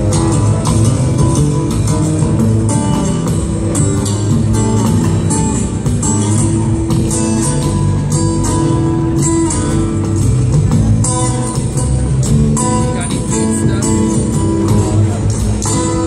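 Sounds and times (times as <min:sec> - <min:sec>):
held guitar notes: 0:00.0 - 0:16.0
live band playing: 0:00.0 - 0:16.0.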